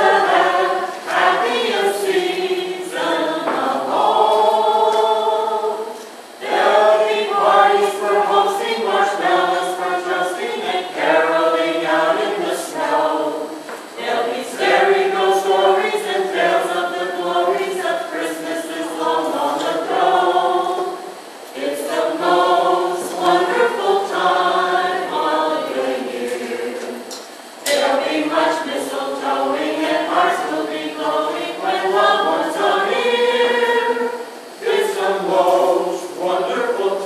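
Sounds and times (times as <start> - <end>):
group singing a carol a cappella: 0.0 - 37.0.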